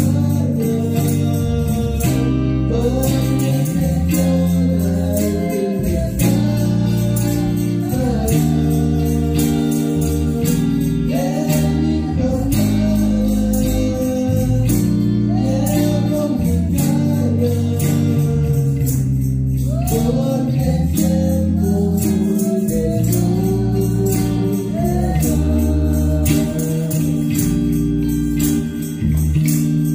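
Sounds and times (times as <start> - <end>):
person singing: 0.0 - 18.9, 19.6 - 27.6
amplified electric guitars: 0.0 - 29.9
bass guitar: 0.0 - 29.9
percussion beat: 0.0 - 29.9.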